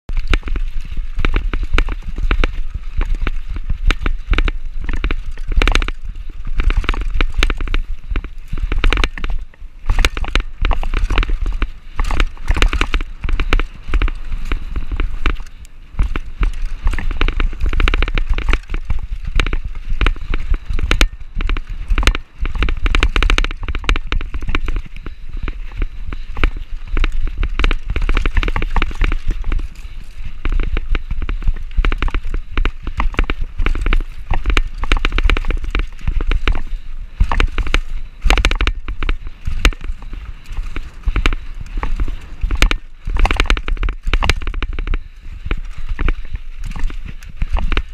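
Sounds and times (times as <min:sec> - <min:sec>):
tyres crunching on dirt: 0:00.0 - 0:47.9
bike clattering over rough ground: 0:00.1 - 0:47.9.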